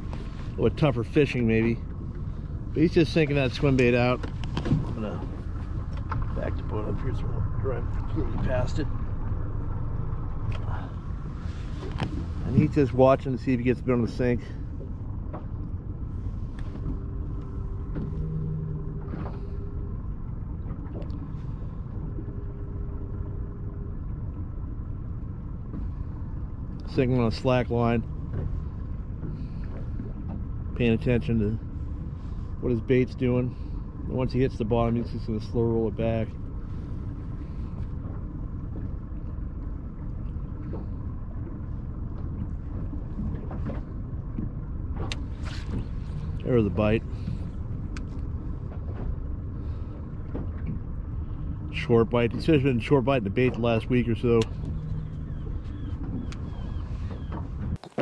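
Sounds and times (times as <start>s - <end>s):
boat engine rumbling: 0.0s - 58.0s
faint hum: 0.0s - 58.0s.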